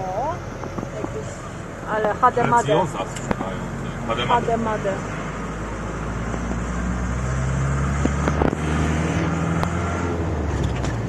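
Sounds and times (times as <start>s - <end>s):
engine running: 0.0s - 11.0s
road noise: 0.0s - 11.0s.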